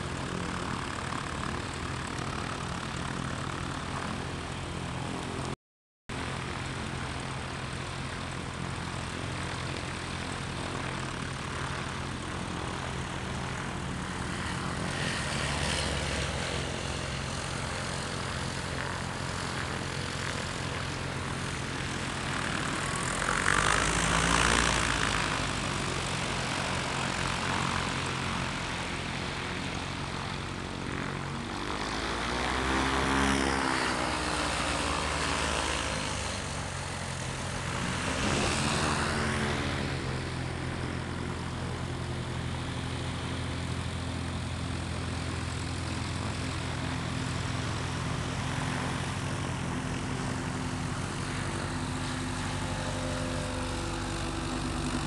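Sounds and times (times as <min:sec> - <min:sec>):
plane taking off at full power: 0:00.0 - 0:55.0
propeller engine hum: 0:00.0 - 0:55.0.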